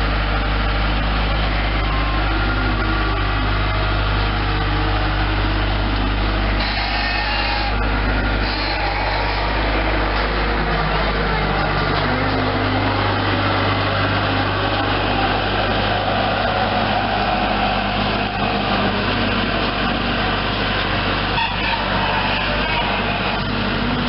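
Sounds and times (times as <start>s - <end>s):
loader engine running: 0.0s - 24.0s.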